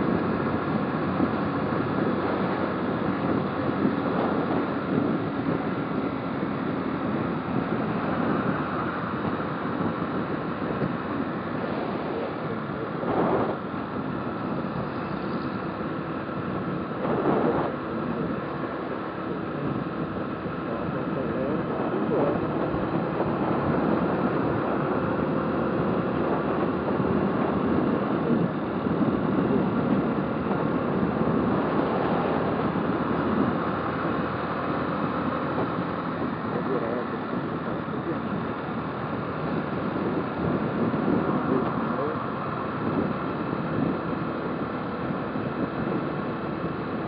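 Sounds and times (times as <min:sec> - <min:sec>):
motorcycle engine running: 0:00.0 - 0:47.0
road and wind noise: 0:00.0 - 0:47.0.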